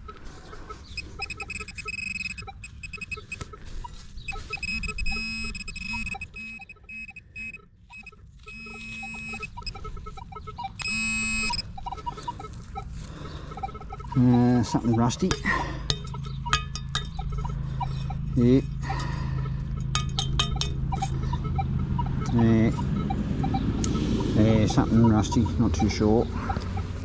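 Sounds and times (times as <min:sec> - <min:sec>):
metal detector beeping: 0:00.0 - 0:27.0.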